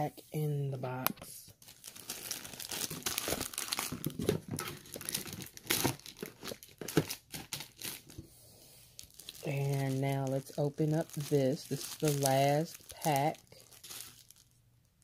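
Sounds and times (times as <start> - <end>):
plastic packs crinkling: 1.0 - 8.3, 8.9 - 14.6.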